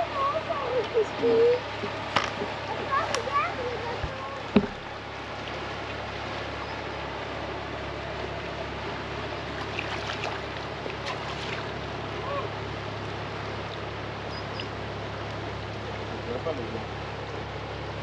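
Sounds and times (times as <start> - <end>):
boat engine drone: 0.0 - 18.0
wind and water hiss: 0.0 - 18.0.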